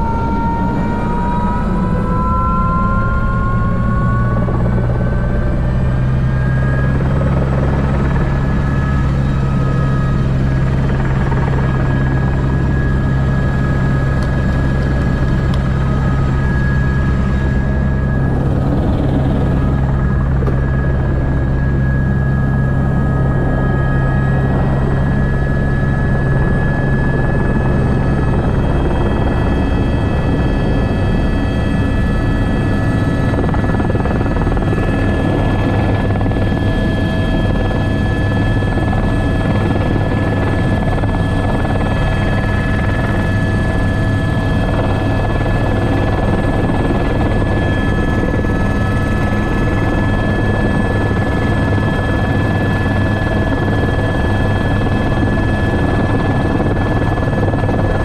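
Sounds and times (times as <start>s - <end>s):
helicopter rotor and gearbox drone: 0.0s - 58.0s
helicopter turbine whine: 0.0s - 58.0s.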